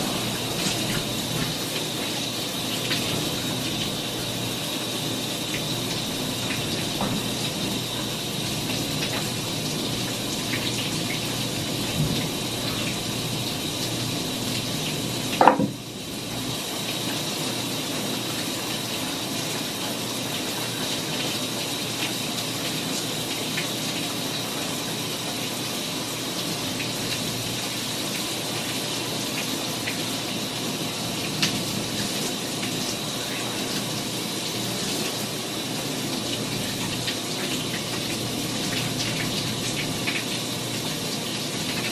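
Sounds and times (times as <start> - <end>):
shower water spraying on tiles: 0.0 - 41.9.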